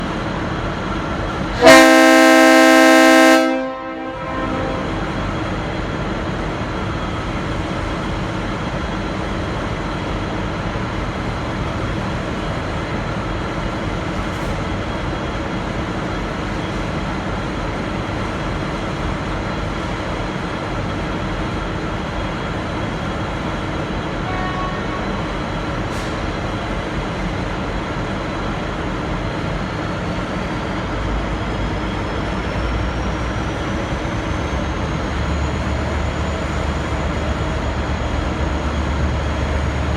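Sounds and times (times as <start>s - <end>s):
diesel locomotive train rumble: 0.0s - 39.9s.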